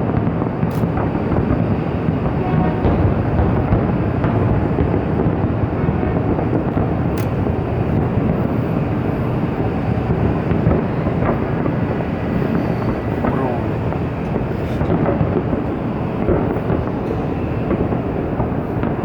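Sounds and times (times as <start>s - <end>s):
fireworks booming: 0.0s - 19.0s
fireworks crackles: 0.0s - 19.0s.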